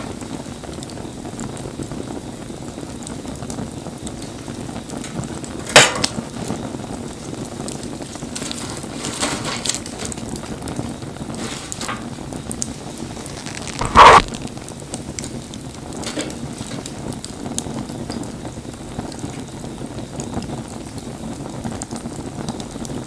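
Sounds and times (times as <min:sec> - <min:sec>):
bonfire burning: 0:00.0 - 0:23.0
loud fire pops: 0:00.0 - 0:23.0.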